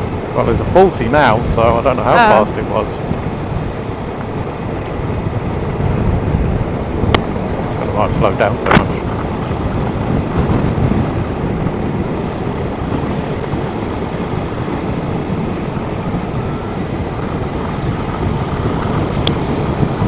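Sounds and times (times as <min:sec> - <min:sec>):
wind and road rush: 0:00.0 - 0:20.0.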